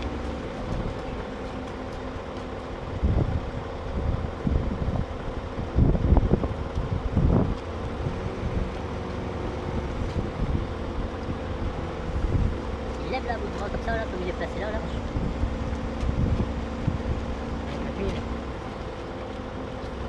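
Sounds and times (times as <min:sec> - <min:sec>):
heavy vehicle engine humming: 0:00.0 - 0:20.0
low rumbles: 0:00.0 - 0:20.0.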